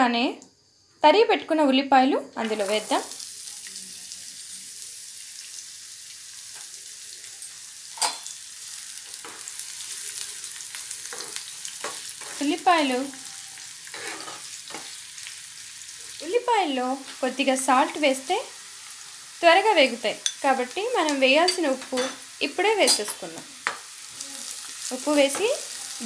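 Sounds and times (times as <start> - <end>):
onions sizzling in hot oil: 2.0 - 26.0.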